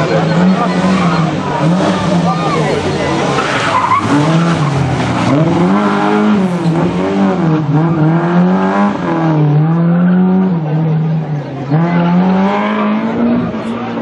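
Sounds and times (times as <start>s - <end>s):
car engine driven hard: 0.0s - 14.0s.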